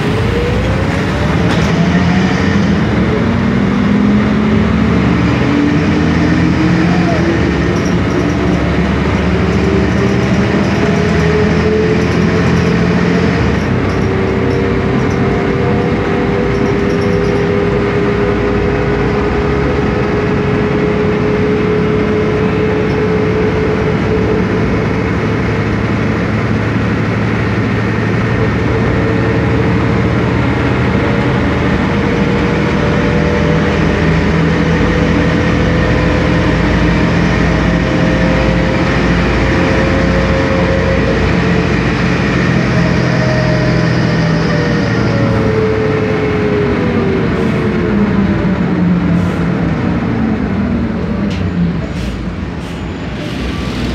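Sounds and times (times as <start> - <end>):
bus engine drone and whine: 0.0 - 53.9.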